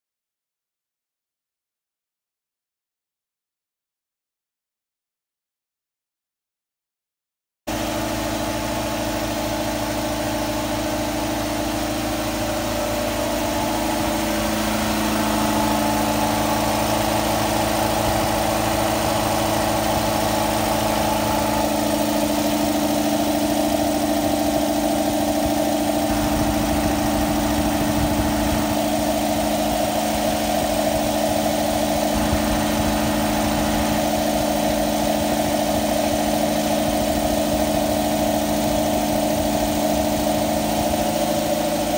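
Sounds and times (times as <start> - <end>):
air compressor running: 7.7 - 41.9.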